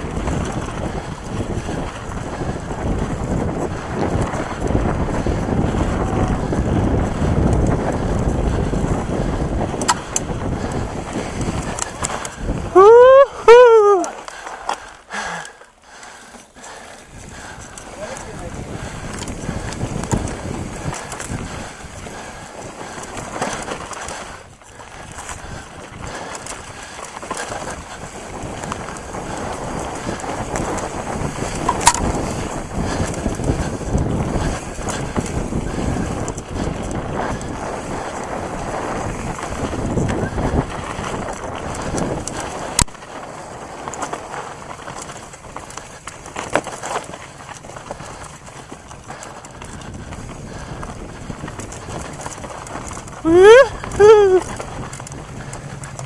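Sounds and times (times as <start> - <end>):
wind on microphone: 0.0 - 14.2, 16.7 - 46.0, 47.0 - 56.0
bike rattling and knocking: 0.0 - 56.0
bike tyres crunching over dirt: 0.0 - 56.0.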